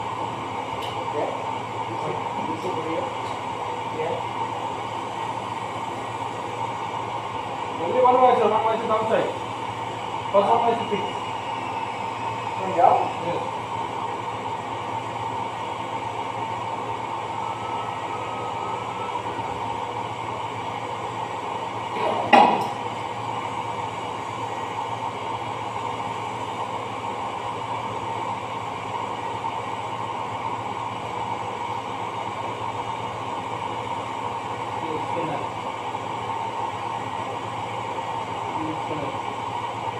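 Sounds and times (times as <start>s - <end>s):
machine hum with whine: 0.0s - 39.9s.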